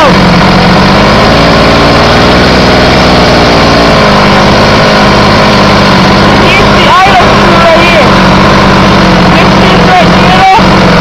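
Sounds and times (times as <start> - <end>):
two-stroke engine idling: 0.0 - 11.0.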